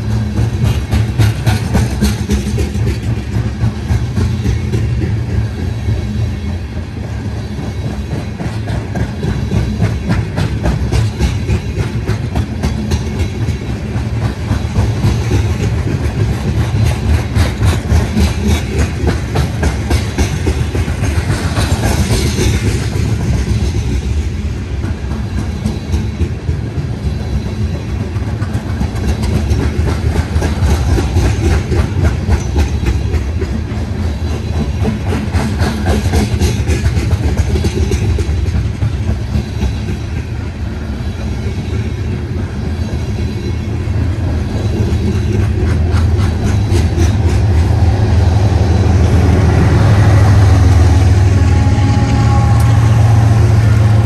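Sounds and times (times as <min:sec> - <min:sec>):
low rumble of train: 0:00.0 - 0:54.0
train wheels clicking over rail joints: 0:00.0 - 0:54.0.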